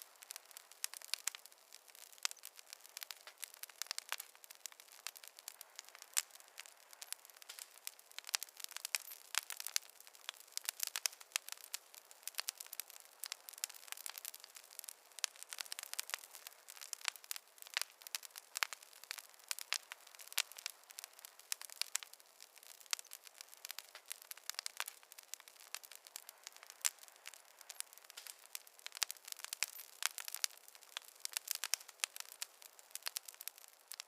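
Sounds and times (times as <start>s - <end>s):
faint hiss: 0.0s - 34.0s
wood fire crackling: 0.0s - 34.0s.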